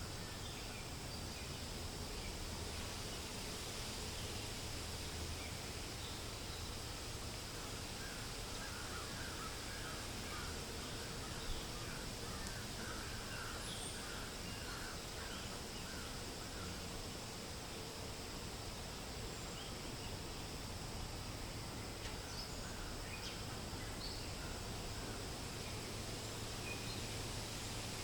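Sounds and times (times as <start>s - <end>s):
wind in the leaves: 0.0s - 28.0s.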